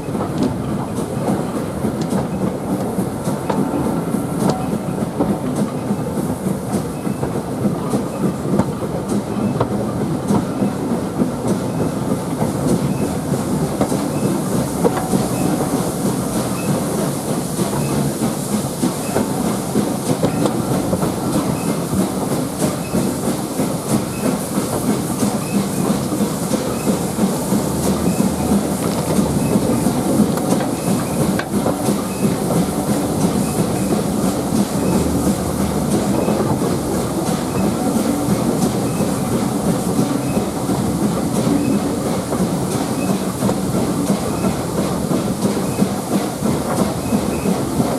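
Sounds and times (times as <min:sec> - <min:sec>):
train coaches rumbling: 0:00.0 - 0:47.9.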